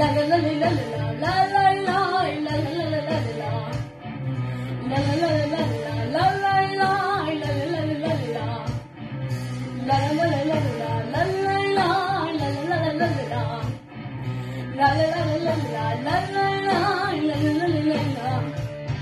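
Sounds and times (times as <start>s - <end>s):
girl singing into microphone: 0.0s - 8.9s, 9.8s - 18.8s
backing track with pulsing bass: 0.0s - 19.0s.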